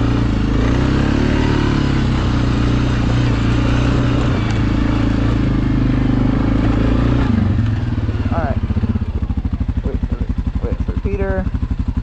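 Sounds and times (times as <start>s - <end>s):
atv engine running: 0.0s - 12.0s
wind: 0.0s - 12.0s.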